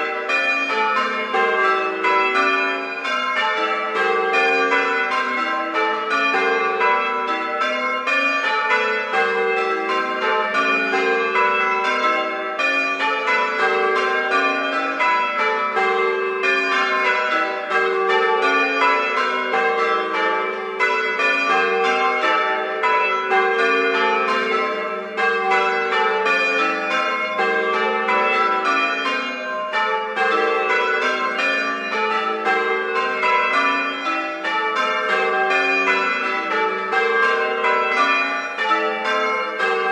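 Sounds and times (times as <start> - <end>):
peal of bells ringing: 0.0 - 39.9.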